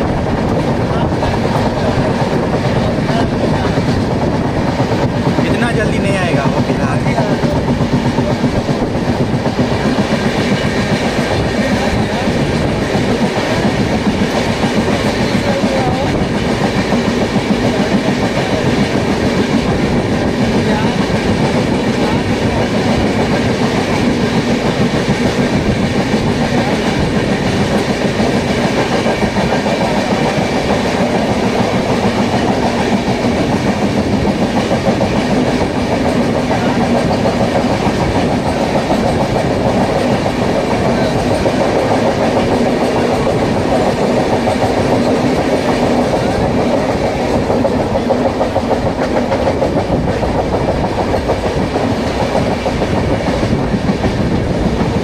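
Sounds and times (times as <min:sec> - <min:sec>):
freight train passing: 0:00.0 - 0:55.0
train wheels clattering on rails: 0:00.0 - 0:55.0.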